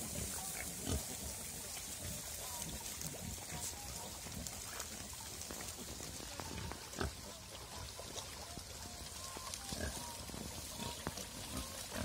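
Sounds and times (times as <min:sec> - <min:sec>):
pigs grunting and squeaking: 0:00.0 - 0:05.2, 0:06.2 - 0:12.0.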